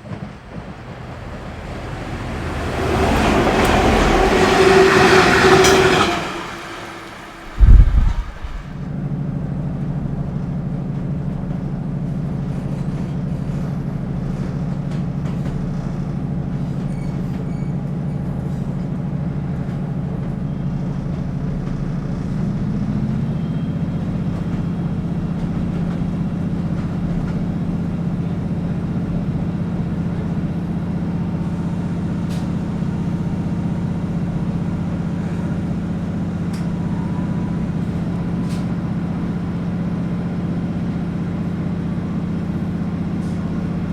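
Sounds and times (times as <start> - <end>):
train running noise: 0.0 - 8.9, 10.9 - 43.9
diesel train engine drone: 0.0 - 43.9.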